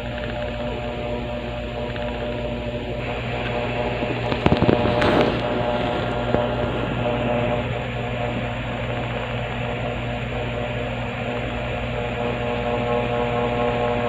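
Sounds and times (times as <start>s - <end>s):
machine hum with held tones: 0.0s - 14.0s.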